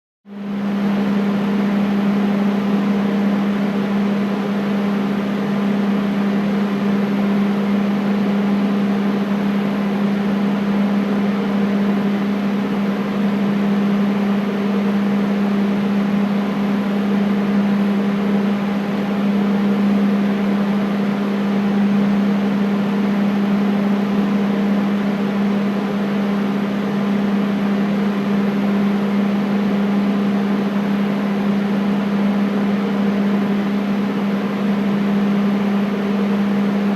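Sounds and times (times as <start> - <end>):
air conditioner running: 0.3 - 36.9.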